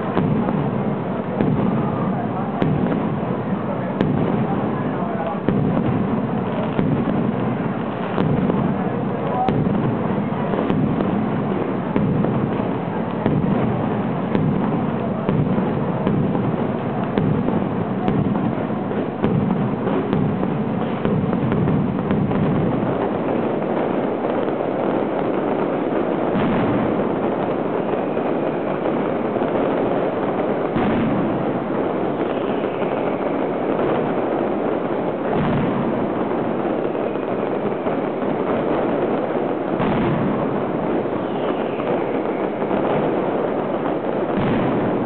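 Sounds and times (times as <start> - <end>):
firecrackers rattling: 0.0 - 45.0
heavy firework bangs: 0.0 - 45.0
whistling rockets: 0.0 - 45.0.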